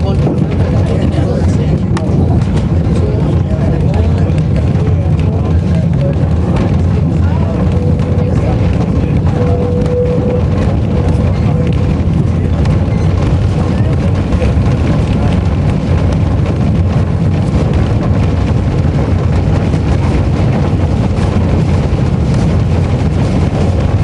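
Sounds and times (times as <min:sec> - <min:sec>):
tramcar rumbling and rattling: 0:00.0 - 0:24.0
wind on microphone: 0:00.0 - 0:24.0.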